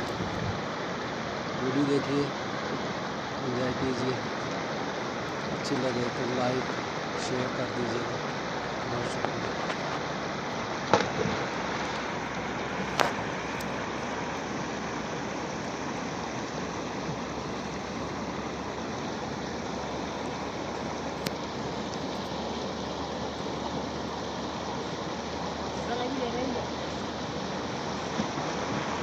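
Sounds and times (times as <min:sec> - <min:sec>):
river rushing: 0:00.0 - 0:29.0.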